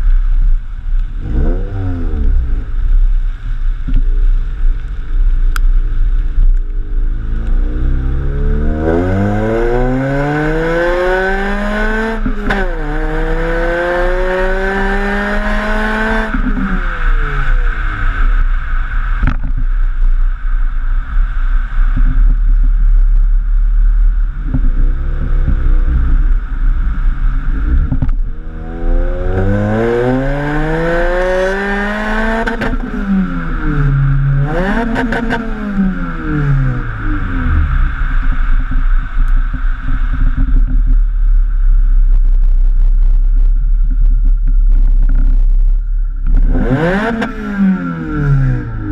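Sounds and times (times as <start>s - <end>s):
car engine accelerating: 0.8s - 48.9s.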